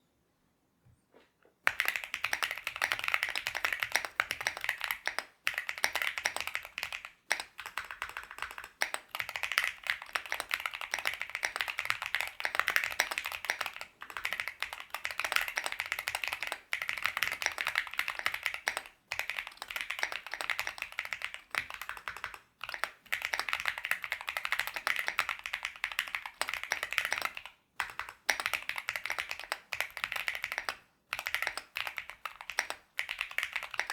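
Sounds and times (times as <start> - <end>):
typing on mechanical keyboard: 1.7 - 33.9.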